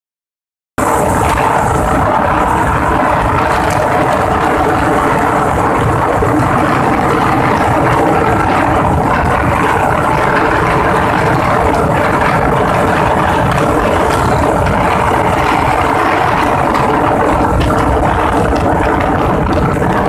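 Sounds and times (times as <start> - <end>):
wind rushing over microphone: 0.8 - 20.0.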